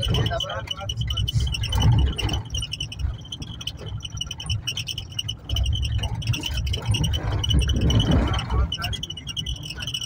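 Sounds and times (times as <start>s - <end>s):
engine and road rumble: 0.0s - 10.0s
high rapid chirping trill: 0.0s - 10.0s.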